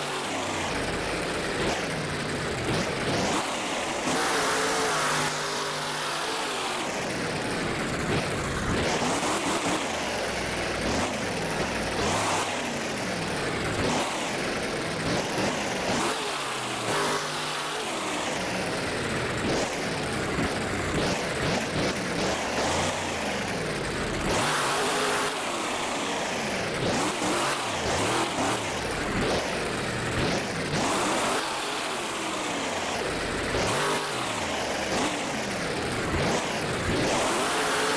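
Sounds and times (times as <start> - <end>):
truck engine revving: 0.0 - 37.9.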